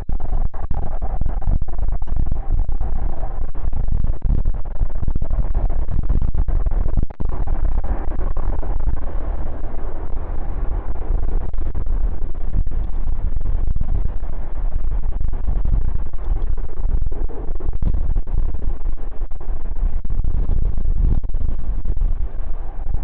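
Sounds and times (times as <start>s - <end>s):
wind buffeting microphone: 1.3s - 23.0s.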